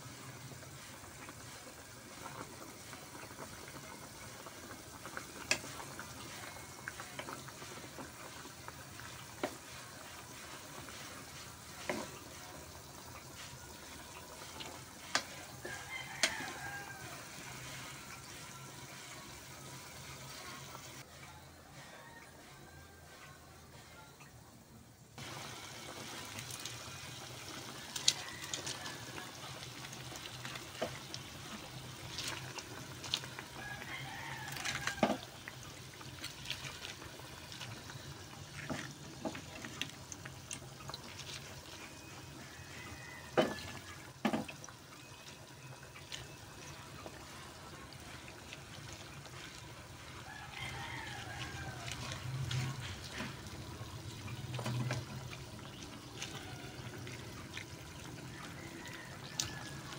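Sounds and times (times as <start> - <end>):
broth boiling in pan: 0.0 - 59.9.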